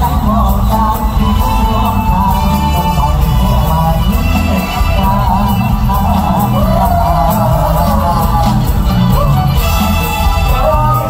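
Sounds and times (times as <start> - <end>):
heavy bass: 0.0 - 11.0
live band playing upbeat song: 0.0 - 11.0
man singing into microphone: 0.0 - 11.0.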